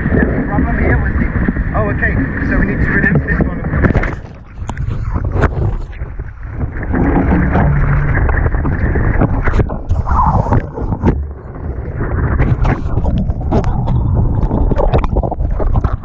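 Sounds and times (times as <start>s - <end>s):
water rushing past hulls: 0.0s - 16.0s
wind buffeting microphone: 0.0s - 16.0s.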